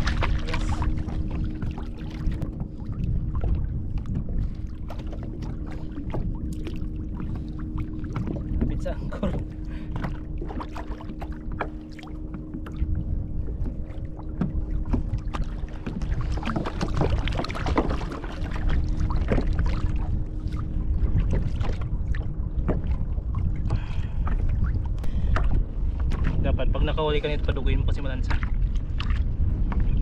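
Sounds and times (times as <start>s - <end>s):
water splashing against kayak: 0.0s - 30.0s
wind on microphone: 0.0s - 30.0s.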